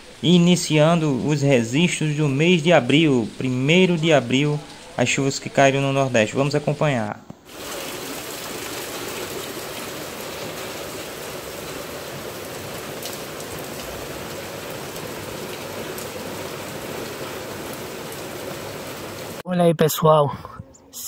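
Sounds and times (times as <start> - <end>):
heavy rain falling: 0.0 - 19.4
runoff water pouring off roof: 0.0 - 19.4.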